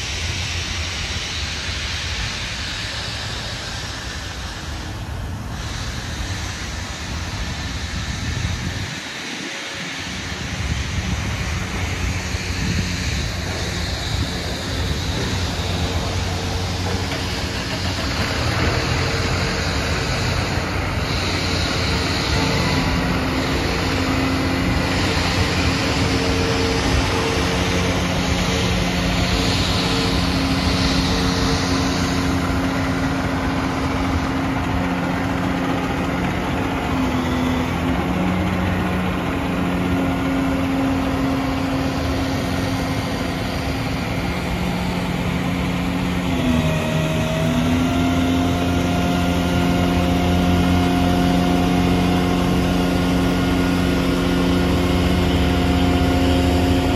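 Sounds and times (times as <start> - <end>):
hydraulic whine: 0.0 - 56.9
diesel truck engine idling: 9.8 - 56.9.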